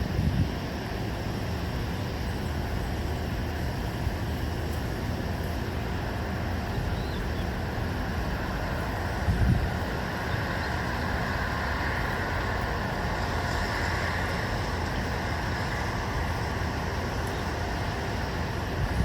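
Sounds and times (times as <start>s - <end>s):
low ambient rumble and hiss: 0.0s - 19.0s.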